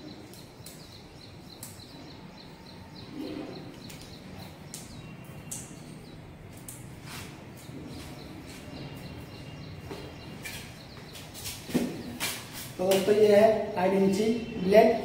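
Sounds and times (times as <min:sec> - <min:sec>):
small bird chirping: 0:00.0 - 0:14.8.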